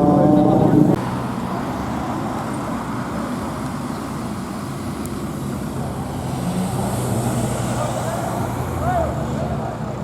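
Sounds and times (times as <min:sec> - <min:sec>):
car traffic rumble: 0:00.0 - 0:10.0.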